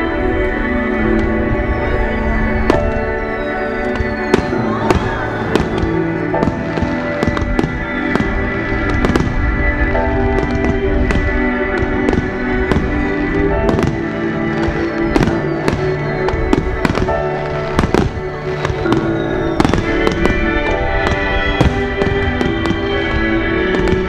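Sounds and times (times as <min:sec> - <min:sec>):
background music: 0:00.0 - 0:24.0
fireworks bangs: 0:01.1 - 0:24.0.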